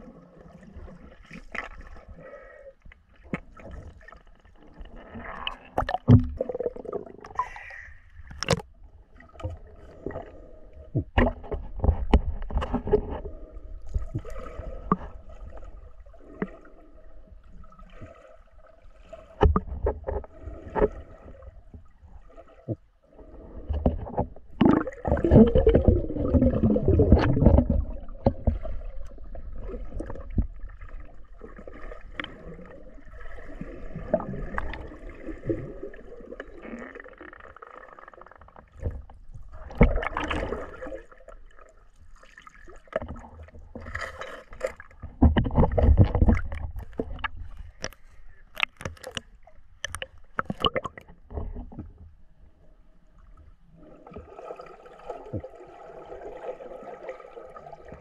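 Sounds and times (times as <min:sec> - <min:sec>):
water sloshing and splashing: 0:00.0 - 0:02.4, 0:03.0 - 0:52.4, 0:53.1 - 0:58.0.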